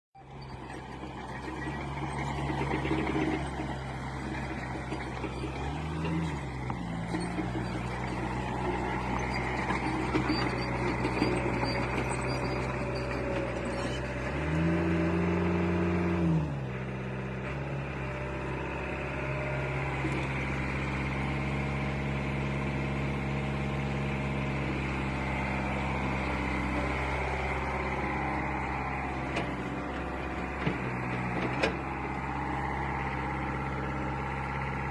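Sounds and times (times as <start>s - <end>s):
excavator diesel engine revving: 0.2s - 34.9s.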